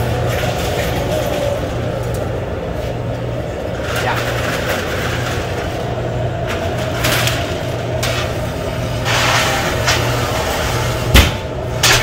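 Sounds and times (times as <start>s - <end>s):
oven blower humming: 0.0s - 12.0s.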